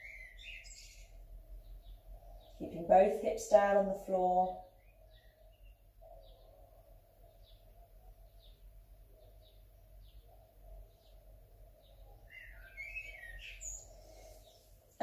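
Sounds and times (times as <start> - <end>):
bird chirping: 0.0 - 14.8.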